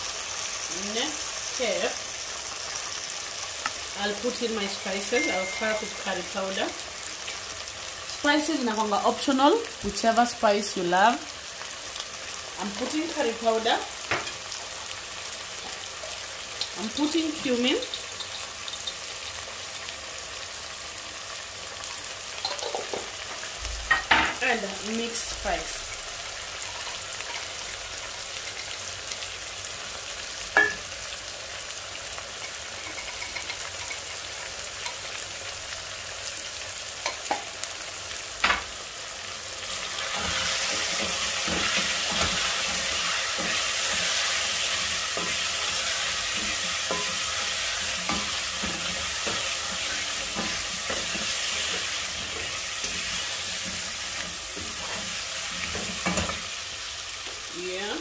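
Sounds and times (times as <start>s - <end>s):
potatoes sizzling in oil: 0.0s - 58.0s.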